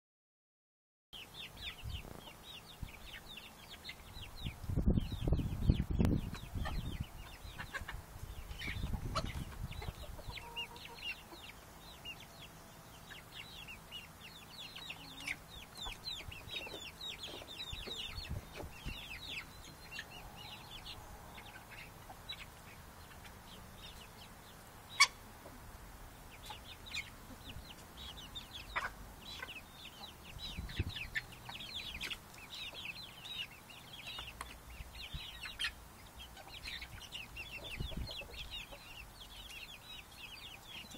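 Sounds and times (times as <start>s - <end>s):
chickens clucking: 1.2s - 40.9s.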